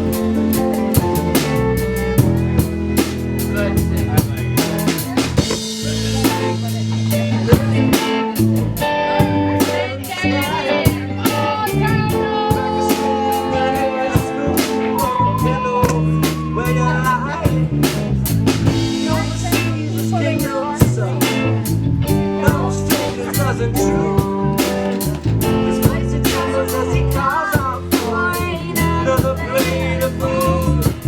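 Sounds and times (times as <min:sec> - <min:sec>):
lead line with bending notes: 0:00.0 - 0:30.9
bass guitar: 0:00.0 - 0:31.0
drum kit with rimshots: 0:00.0 - 0:31.0
guitar: 0:00.0 - 0:31.0.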